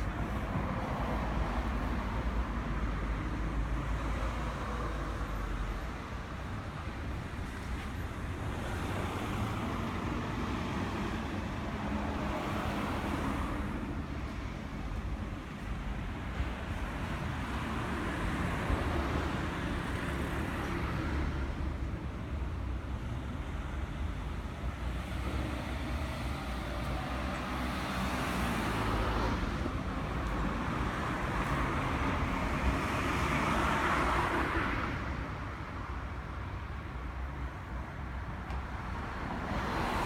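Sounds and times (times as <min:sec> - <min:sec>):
passing traffic: 0:00.0 - 0:40.0.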